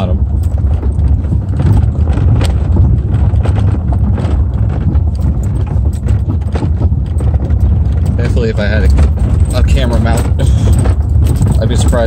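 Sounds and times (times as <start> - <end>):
tyres rumbling over rough ground: 0.0 - 12.0
stones knocking against car: 0.4 - 11.9.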